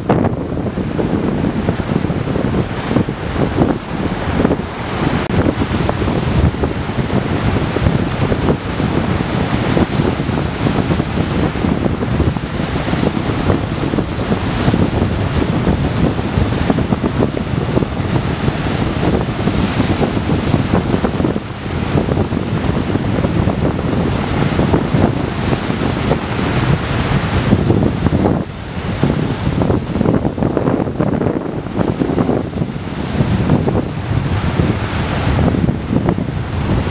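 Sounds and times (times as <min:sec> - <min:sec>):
sea surf breaking on stone: 0:00.0 - 0:36.9
wind rumble on microphone: 0:00.0 - 0:36.9.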